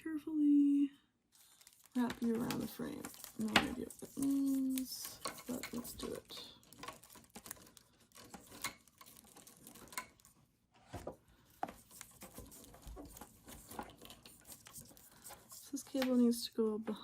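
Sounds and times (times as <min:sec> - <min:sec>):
wiring rustling: 0:01.4 - 0:16.3.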